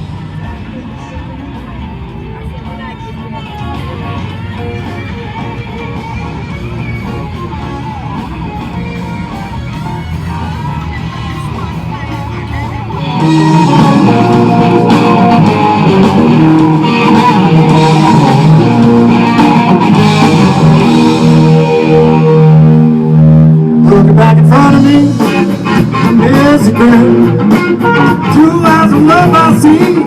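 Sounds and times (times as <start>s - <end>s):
rock song with guitar and singing: 0.0s - 30.0s.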